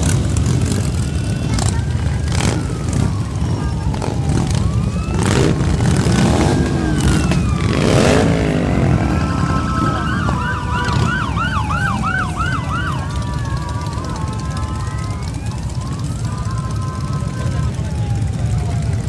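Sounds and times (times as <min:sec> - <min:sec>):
motorcycle revving: 0:00.0 - 0:19.0
motorcycles rumbling past: 0:00.0 - 0:19.0
siren yelping: 0:00.7 - 0:19.0.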